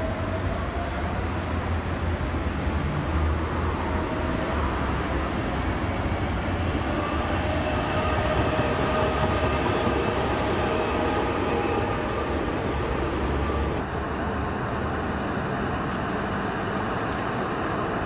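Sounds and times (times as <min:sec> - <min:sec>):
tram rolling on rails: 0:00.0 - 0:18.0.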